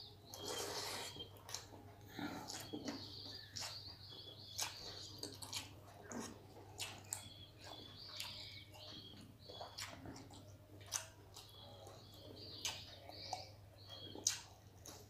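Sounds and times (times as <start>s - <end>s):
birds chirping faintly: 0.0s - 15.0s
chewing: 0.3s - 15.0s
fingers eating from steel plate: 0.3s - 15.0s.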